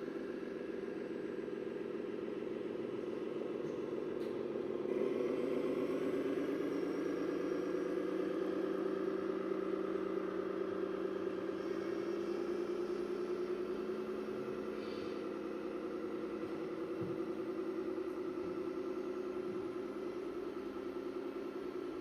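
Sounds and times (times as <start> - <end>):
model truck diesel engine sound: 0.0 - 22.0.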